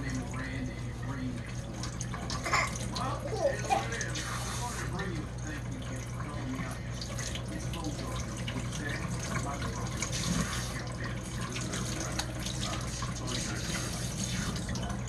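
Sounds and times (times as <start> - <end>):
water spraying into sink: 1.7 - 15.0.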